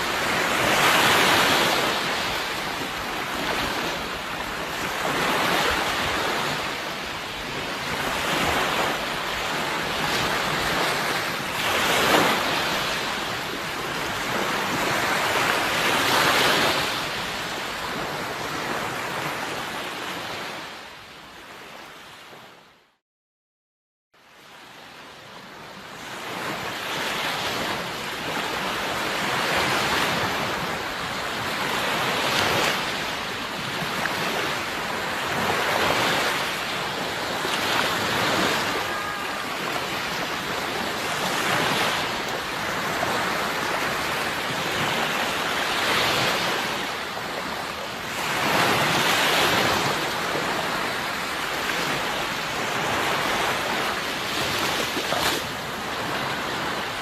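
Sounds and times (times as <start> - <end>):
sea waves breaking on shore: 0.0 - 22.7, 24.2 - 57.0.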